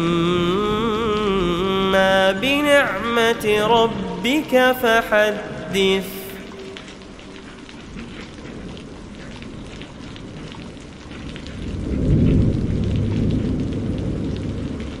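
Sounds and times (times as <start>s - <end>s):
rain pattering: 0.0s - 15.0s
thunder rolling: 0.0s - 15.0s.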